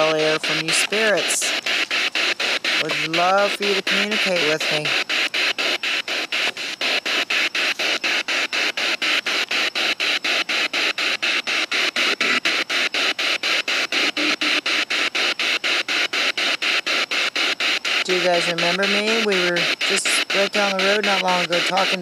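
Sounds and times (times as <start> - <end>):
radio static bursts: 0.0 - 22.0.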